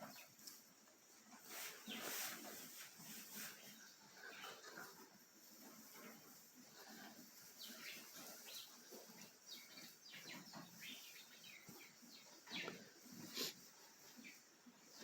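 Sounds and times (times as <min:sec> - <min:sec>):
cows crunching feed: 0:00.0 - 0:15.0.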